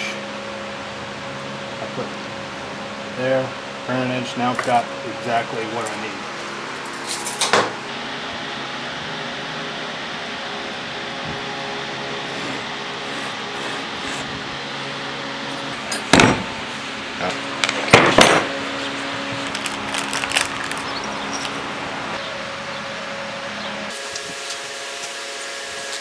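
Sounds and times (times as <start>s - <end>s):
shop fan humming: 0.0s - 26.0s.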